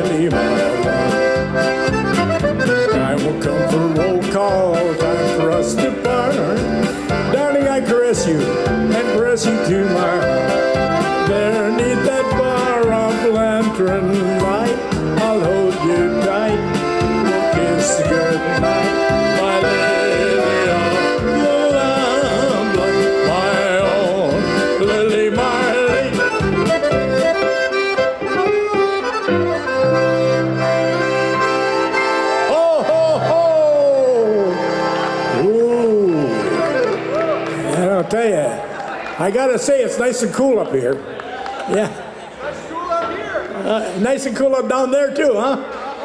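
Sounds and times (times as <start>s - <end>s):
keyboard backing with beat: 0.0s - 39.1s
accordion playing lively tune: 0.0s - 40.5s.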